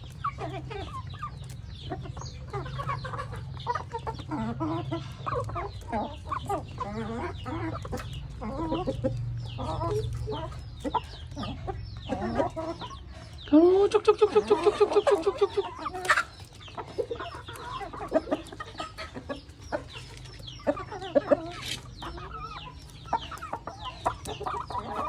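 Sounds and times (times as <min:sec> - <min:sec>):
beaks pecking at feed: 0:00.0 - 0:13.4, 0:14.3 - 0:25.0
chickens clucking: 0:00.0 - 0:25.0.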